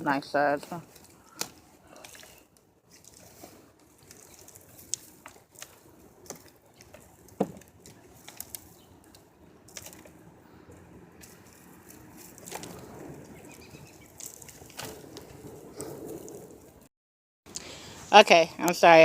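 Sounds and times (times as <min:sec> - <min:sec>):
hands rustling through soil: 0:00.2 - 0:16.8.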